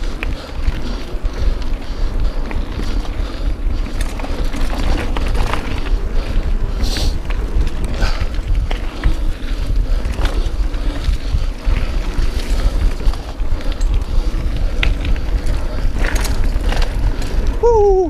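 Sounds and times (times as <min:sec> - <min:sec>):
bike tyres rolling on dirt: 0:00.0 - 0:18.0
wind rushing over microphone: 0:00.0 - 0:18.0.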